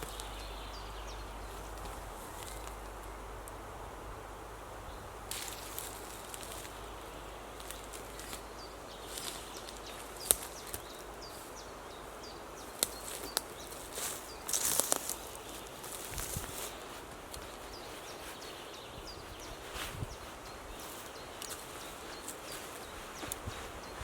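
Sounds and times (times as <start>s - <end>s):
rustling: 0.0s - 3.6s, 5.3s - 11.6s, 12.7s - 24.0s
birds chirping: 0.0s - 24.0s
steady background hiss: 0.0s - 24.0s.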